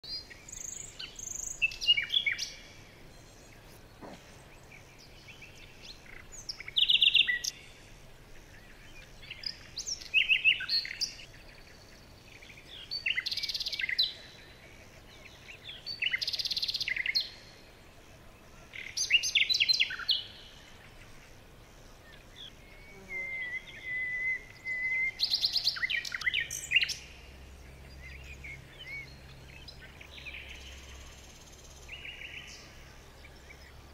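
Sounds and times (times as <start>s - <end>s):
songbird chirping and trilling: 0.0s - 33.9s.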